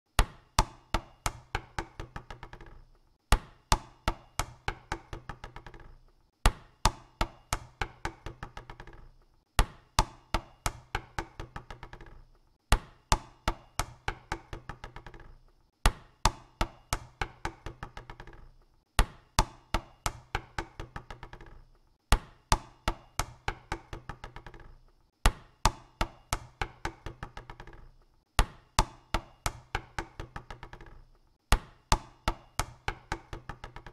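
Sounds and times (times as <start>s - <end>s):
basketball bouncing on hard court: 0.2s - 33.9s.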